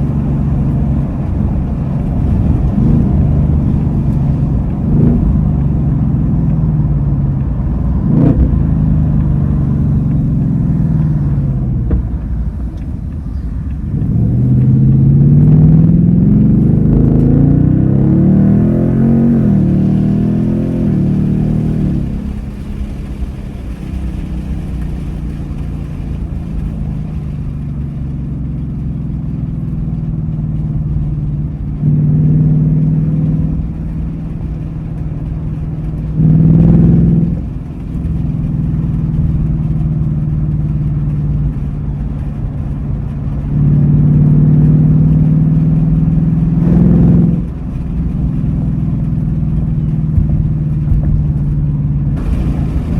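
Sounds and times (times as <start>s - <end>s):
car engine accelerating and cruising: 0.0s - 52.9s.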